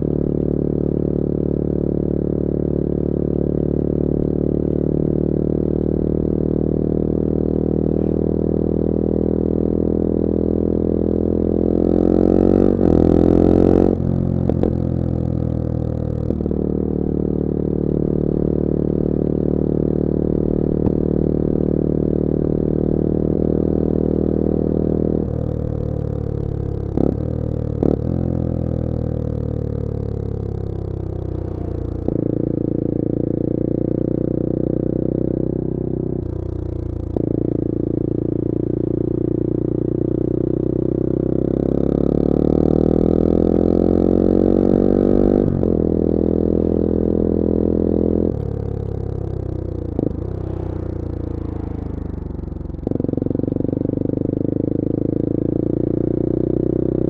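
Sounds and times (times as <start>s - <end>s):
motorcycle engine revving: 11.0s - 57.0s.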